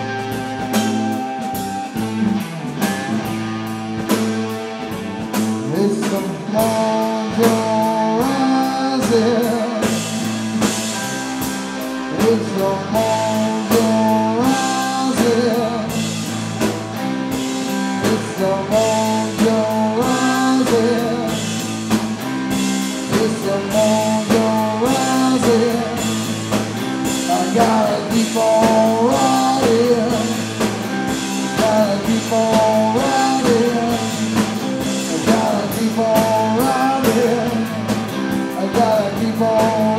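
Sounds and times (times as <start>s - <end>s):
bending lead guitar line: 0.0s - 39.9s
live rock band playing: 0.0s - 39.9s.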